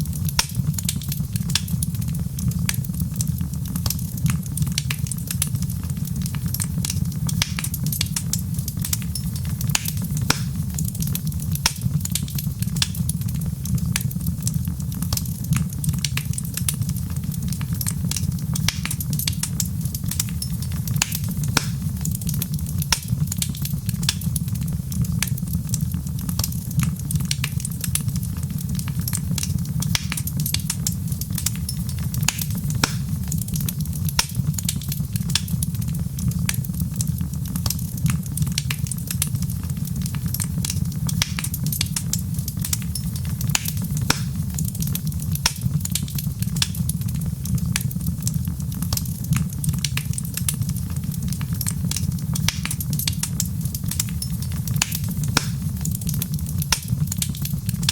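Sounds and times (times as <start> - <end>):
fire pops and snaps: 0.0 - 57.9
wood fire crackling: 0.0 - 57.9.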